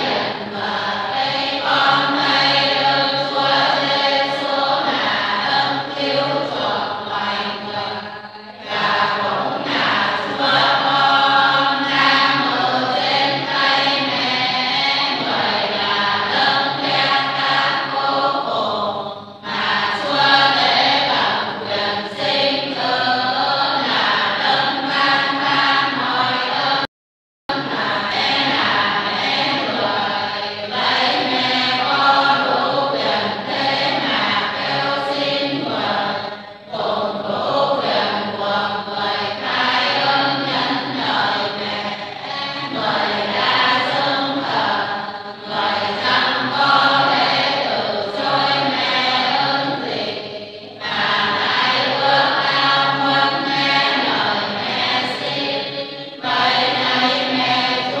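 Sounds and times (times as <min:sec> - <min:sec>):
group of voices chanting: 0:00.0 - 0:26.9, 0:27.5 - 0:58.0.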